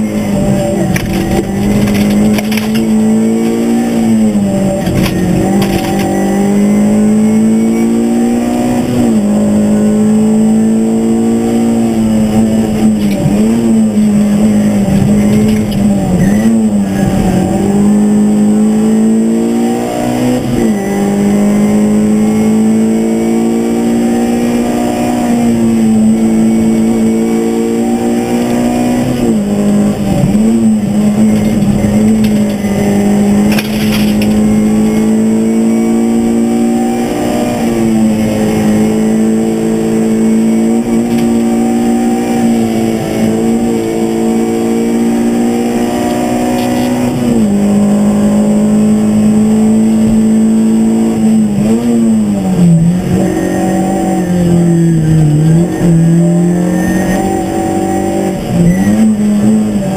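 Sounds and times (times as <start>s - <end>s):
rally car engine at high revs: 0.0s - 59.9s.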